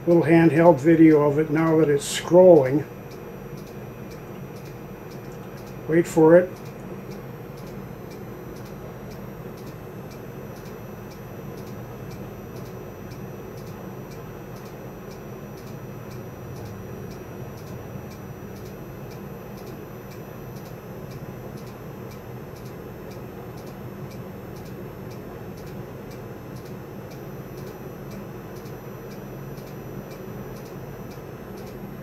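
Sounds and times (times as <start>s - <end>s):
electrical hum: 0.0s - 32.0s
faint ticking: 0.0s - 32.0s.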